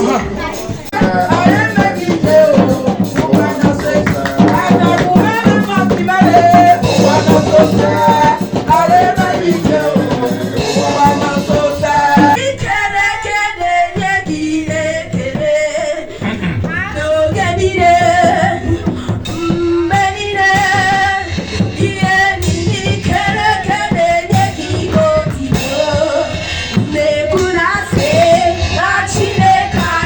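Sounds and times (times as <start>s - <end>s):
fast percussion beat: 0.0s - 30.0s
person singing: 0.0s - 30.0s.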